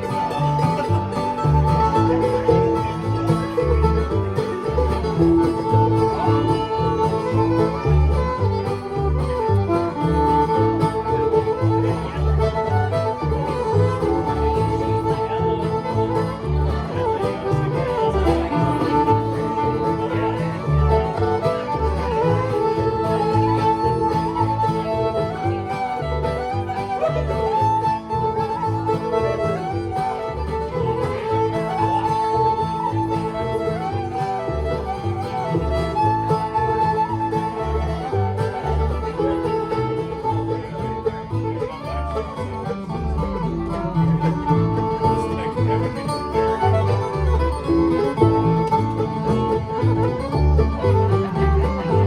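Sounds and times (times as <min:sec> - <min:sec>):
banjo: 0:00.0 - 0:52.0
fiddle playing melody: 0:00.0 - 0:52.0
guitar: 0:00.0 - 0:52.0.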